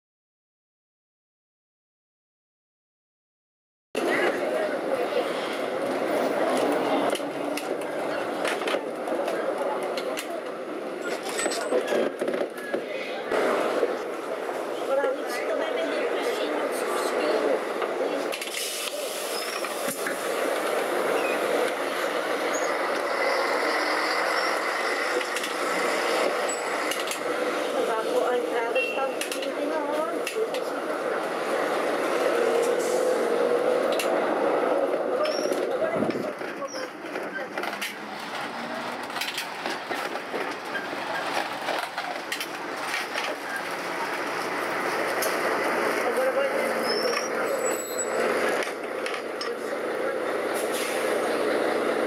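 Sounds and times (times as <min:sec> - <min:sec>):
street traffic: 0:04.0 - 0:52.0
tram running noise: 0:04.0 - 0:52.0.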